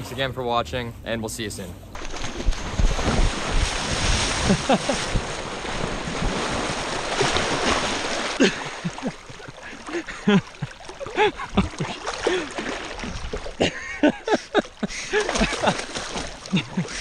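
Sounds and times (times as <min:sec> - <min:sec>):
person wading and splashing: 0:02.0 - 0:17.0
water sloshing and gurgling: 0:02.0 - 0:17.0.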